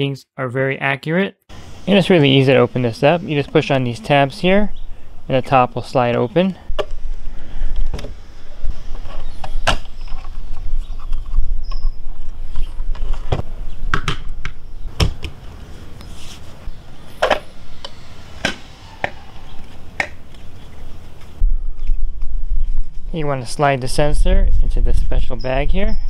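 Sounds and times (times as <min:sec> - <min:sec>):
steady low rumble: 0:01.6 - 0:09.1, 0:10.6 - 0:26.0.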